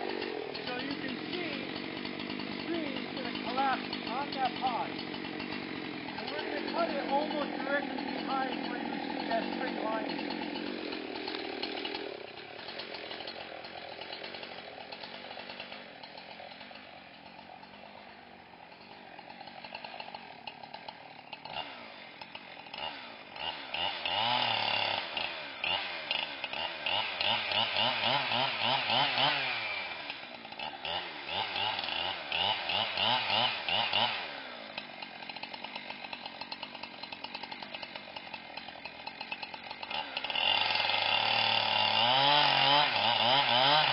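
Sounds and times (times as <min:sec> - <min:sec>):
chainsaw cutting tree: 0:00.0 - 0:43.9.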